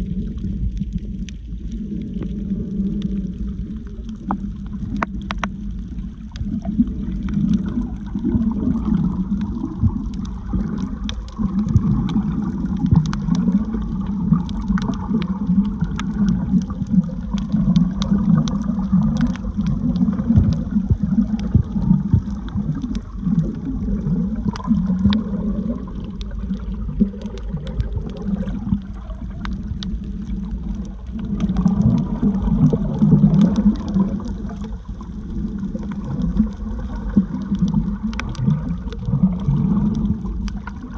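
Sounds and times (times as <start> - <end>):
underwater sloshing and gurgling: 0.0 - 40.9
faint clicks: 0.4 - 40.9.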